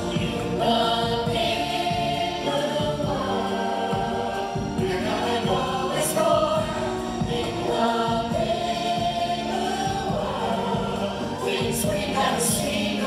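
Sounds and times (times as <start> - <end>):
choir singing over music: 0.0 - 13.0.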